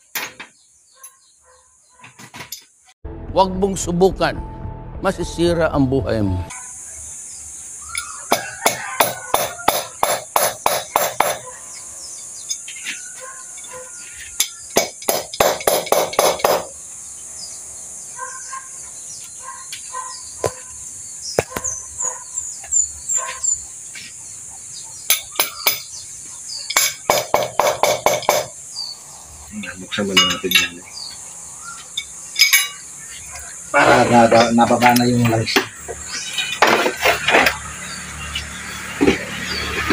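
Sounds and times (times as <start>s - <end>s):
high insect drone: 6.5s - 39.8s.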